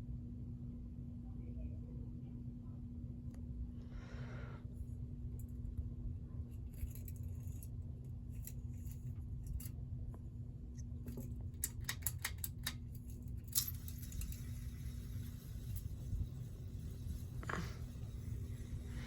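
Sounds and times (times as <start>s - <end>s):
ceiling fan humming: 0.0s - 19.0s.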